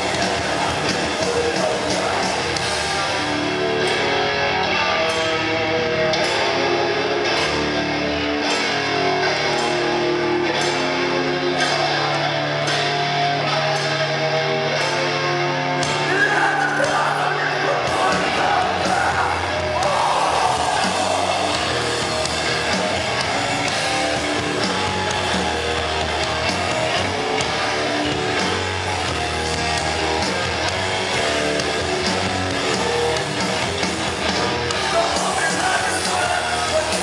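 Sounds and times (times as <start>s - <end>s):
electric guitar melody: 0.0s - 37.0s
live rock band playing: 0.0s - 37.0s.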